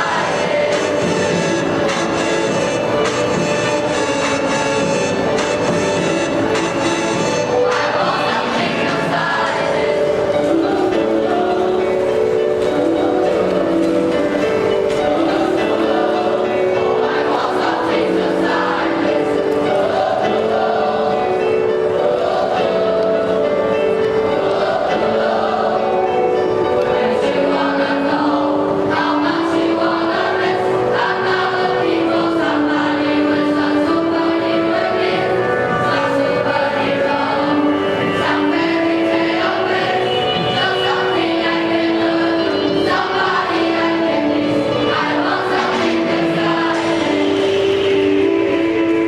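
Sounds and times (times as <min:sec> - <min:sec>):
choir singing long notes: 0:00.0 - 0:49.0.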